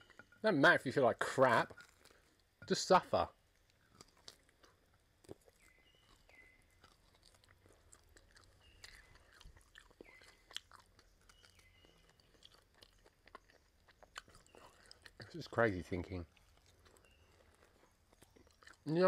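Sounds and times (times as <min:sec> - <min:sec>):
chewing and biting: 0:01.6 - 0:02.6, 0:03.5 - 0:19.0.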